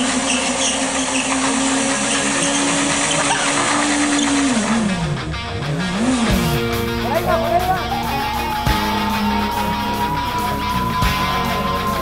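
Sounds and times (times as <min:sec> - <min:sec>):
motorcycle engine revving high: 0:00.0 - 0:12.0.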